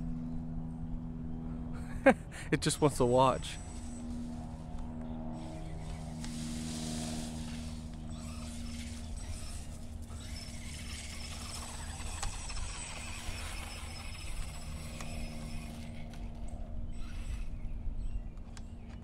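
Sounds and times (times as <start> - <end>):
high motor whine: 0.0 - 19.0
rustling tyre and drivetrain noise: 3.5 - 19.0.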